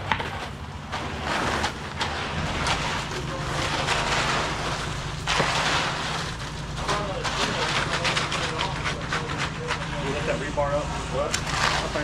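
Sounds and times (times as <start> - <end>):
scraping and knocks: 0.0 - 10.4
engine running steadily: 0.0 - 12.0.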